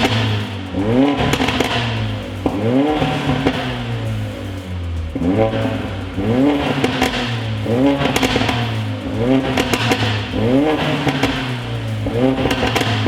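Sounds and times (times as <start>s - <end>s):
car engine idling: 0.0s - 13.0s
car engine revving: 0.0s - 13.0s.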